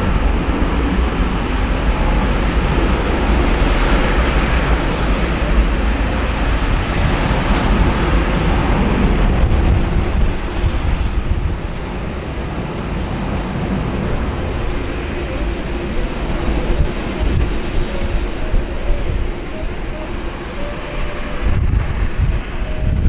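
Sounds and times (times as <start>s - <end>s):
jet engines at high thrust: 0.0s - 23.0s.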